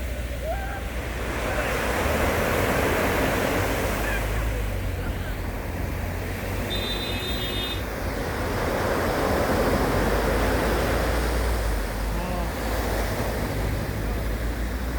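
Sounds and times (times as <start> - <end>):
sea waves washing onto shore: 0.0 - 14.9.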